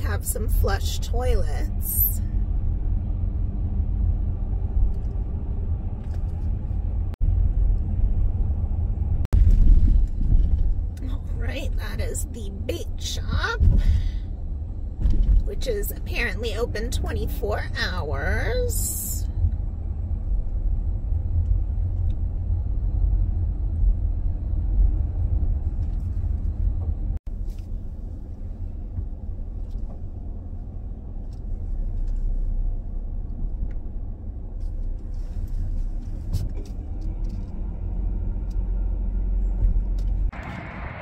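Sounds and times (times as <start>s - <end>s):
vehicle engine and road noise: 0.0s - 41.0s.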